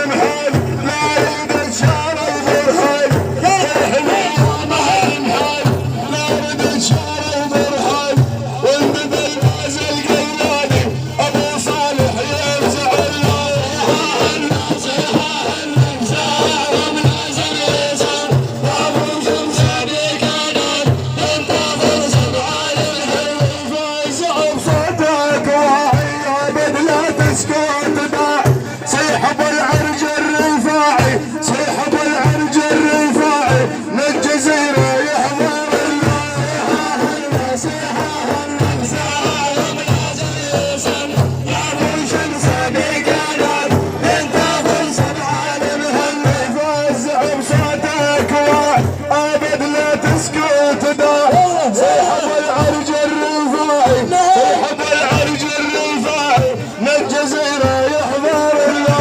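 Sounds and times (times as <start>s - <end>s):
regular drum beat: 0.0s - 59.0s.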